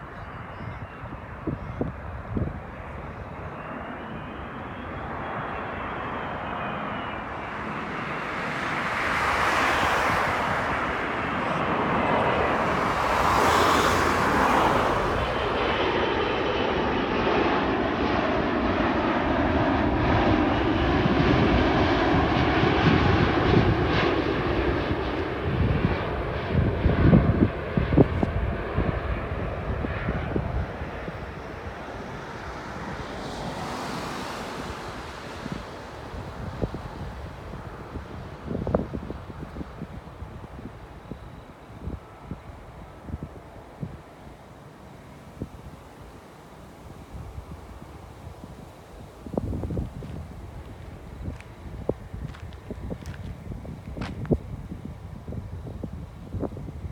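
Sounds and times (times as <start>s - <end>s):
jet engine roar: 0.0s - 56.9s.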